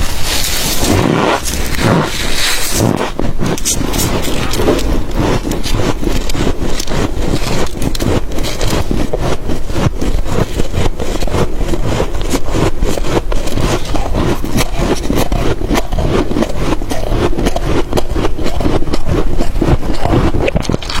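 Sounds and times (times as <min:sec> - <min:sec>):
chewing frost crunches: 0:00.0 - 0:21.0.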